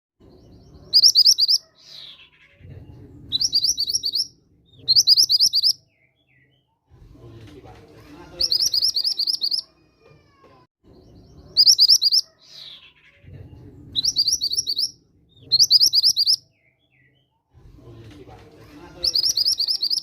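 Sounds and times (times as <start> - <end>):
songbird rapid chirping: 0.2 - 9.9, 10.8 - 20.0.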